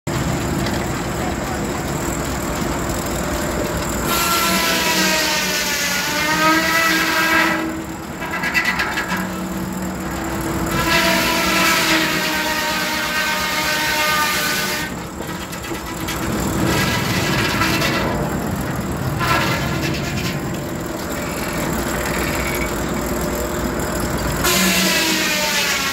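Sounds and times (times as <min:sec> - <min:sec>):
saw carriage clattering: 0:00.1 - 0:25.9
circular saw blade cutting log: 0:01.6 - 0:25.9.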